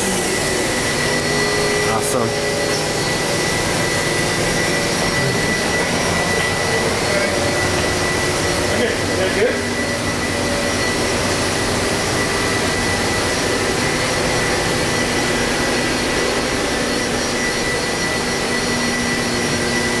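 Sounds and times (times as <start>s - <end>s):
high-pitched machine whine: 0.0s - 20.0s
machining center whirring: 0.0s - 20.0s.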